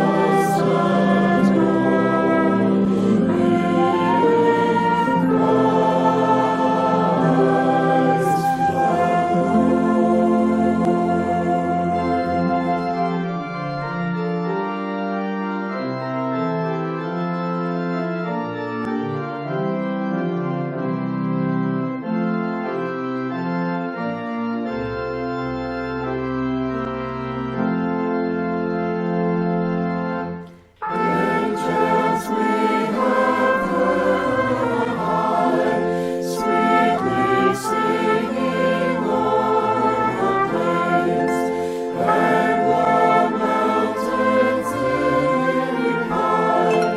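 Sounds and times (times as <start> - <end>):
music with long held chords: 0.0 - 46.9.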